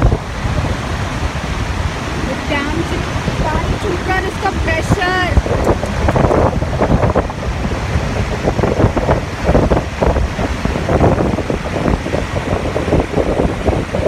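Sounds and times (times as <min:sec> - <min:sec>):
churning white water rushing: 0:00.0 - 0:14.0
wind buffeting microphone: 0:00.0 - 0:14.0.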